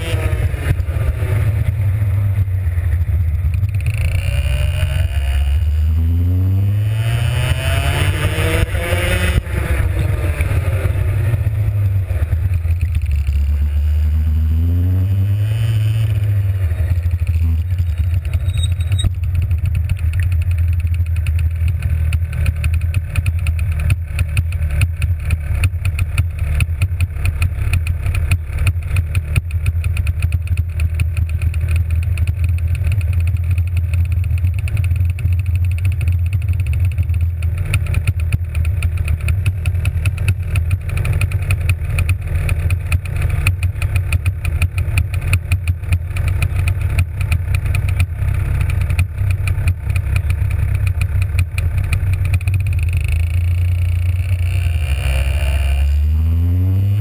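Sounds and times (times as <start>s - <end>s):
two-stroke kart engine idling: 0.0s - 56.2s.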